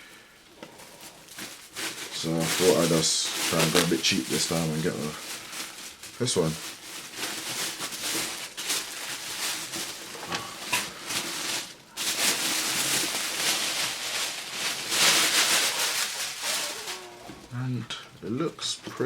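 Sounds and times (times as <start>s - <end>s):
packaging rustling and crinkling: 0.5s - 19.0s.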